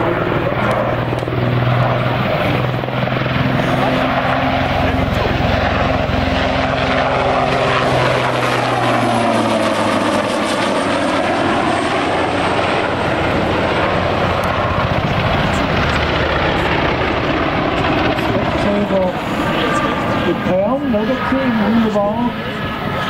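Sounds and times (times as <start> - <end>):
helicopter engines whining: 0.0 - 23.0
low rotor hum: 0.0 - 23.0.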